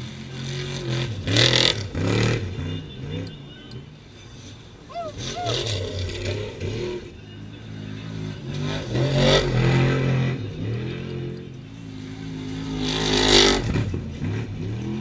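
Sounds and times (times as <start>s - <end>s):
race vehicle engines revving past: 0.0s - 15.0s.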